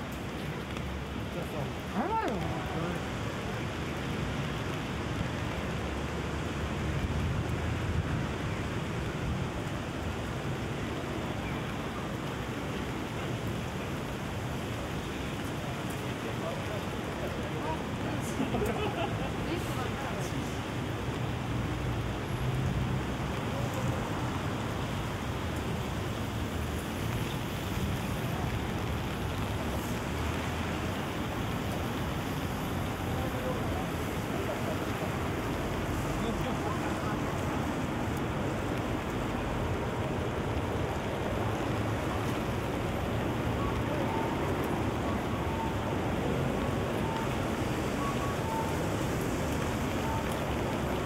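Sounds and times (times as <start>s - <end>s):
low city rumble: 0.0s - 51.0s
steady rain falling: 0.0s - 51.0s.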